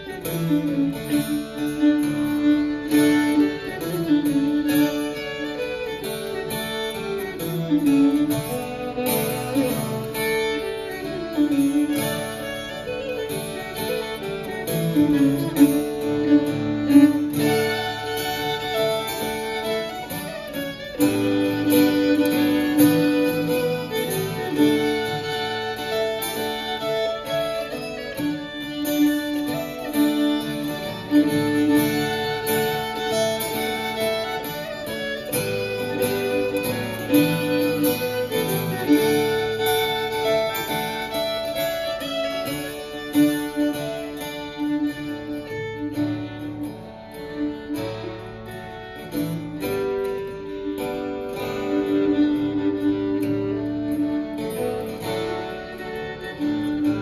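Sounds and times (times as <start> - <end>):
plucked string accompaniment: 0.0 - 57.0.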